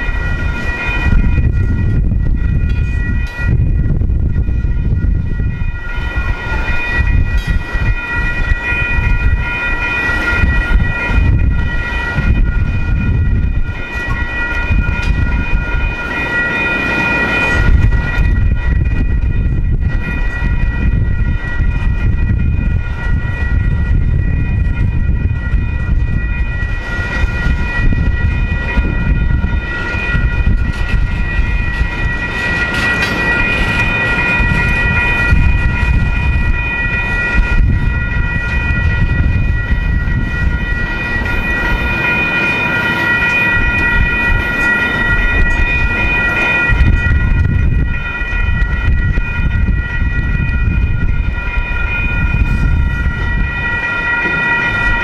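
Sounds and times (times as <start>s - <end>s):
high-pitched ringing tone: 0.0s - 55.0s
train wheels rumbling on rail: 0.0s - 55.0s.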